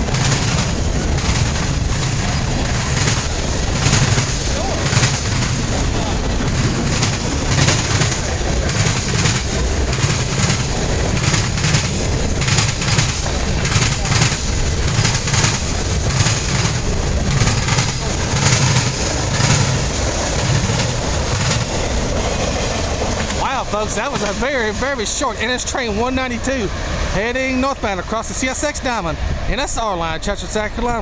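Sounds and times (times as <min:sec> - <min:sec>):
low rumble of passing train: 0:00.0 - 0:31.0
train wheels banging over crossing: 0:00.0 - 0:31.0.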